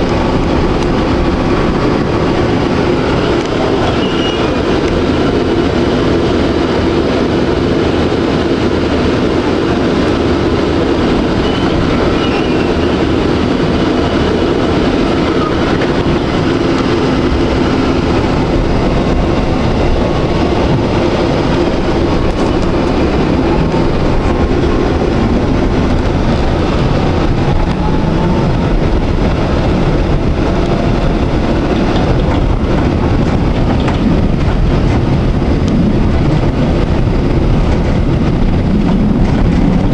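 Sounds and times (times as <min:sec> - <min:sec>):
tram wheels rolling on rails: 0:00.0 - 0:39.9.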